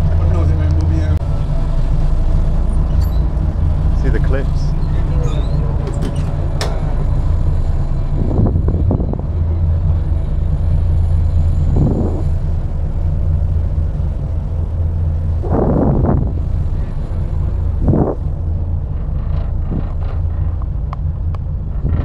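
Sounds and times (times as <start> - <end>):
ship engines droning: 0.0 - 22.0.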